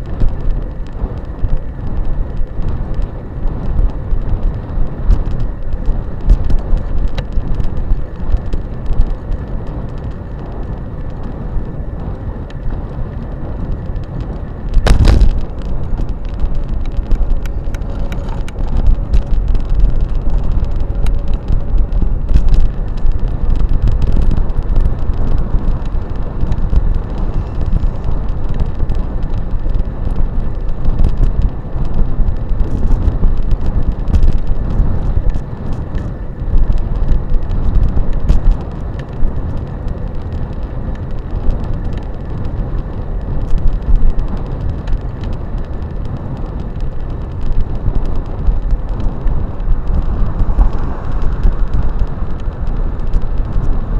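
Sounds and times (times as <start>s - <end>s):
wind and ground rumble: 0.0s - 53.9s.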